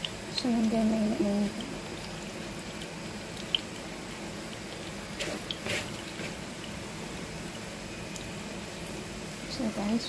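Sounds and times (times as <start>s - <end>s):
oil popping: 0.0s - 9.2s
food sizzling in oil: 0.0s - 10.0s.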